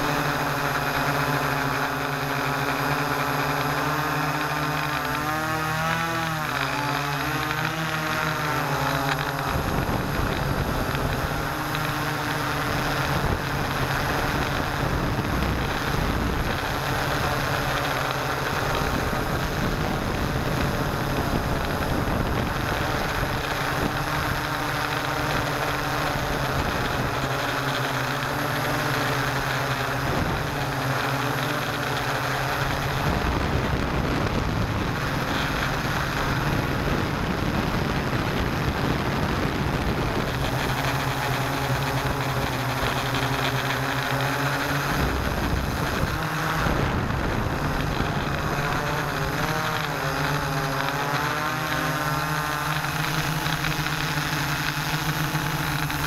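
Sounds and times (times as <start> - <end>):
drone propellers droning: 0.0 - 56.0.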